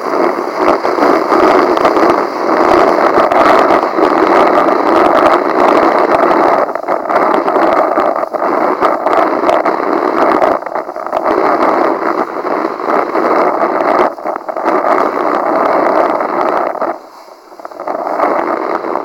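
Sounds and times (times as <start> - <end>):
board skimming over water: 0.0 - 19.0
strong wind on microphone: 0.0 - 19.0.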